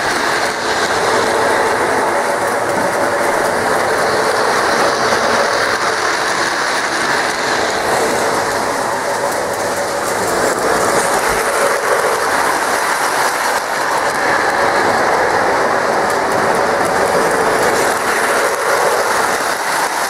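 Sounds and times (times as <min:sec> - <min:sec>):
model train wheels clattering: 0:00.0 - 0:20.0.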